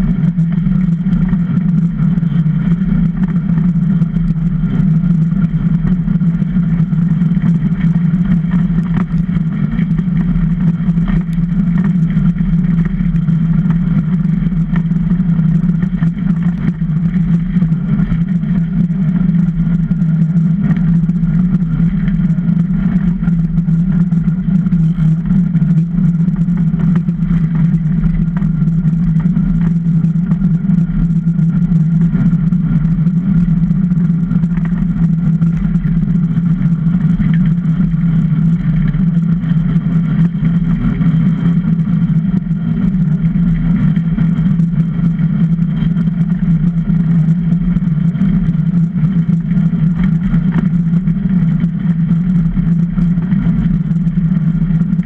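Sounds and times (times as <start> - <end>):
iceboat runners rumbling over ice: 0.0 - 55.0.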